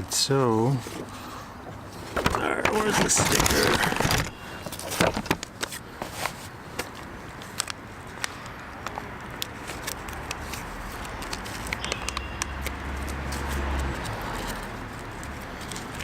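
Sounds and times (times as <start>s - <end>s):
packaging being handled: 1.9s - 16.0s
clicks and crackles: 2.1s - 5.8s, 6.8s - 16.0s.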